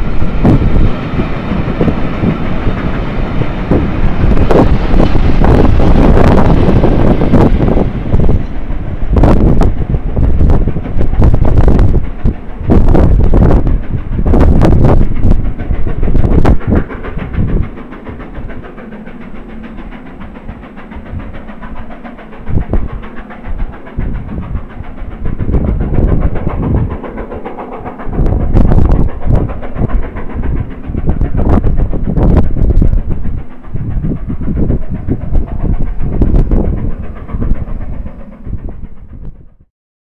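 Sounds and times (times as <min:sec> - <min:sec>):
diesel locomotive: 0:00.0 - 0:39.7
train wheels clattering on rails: 0:00.0 - 0:39.7
wind buffeting microphone: 0:00.0 - 0:39.7.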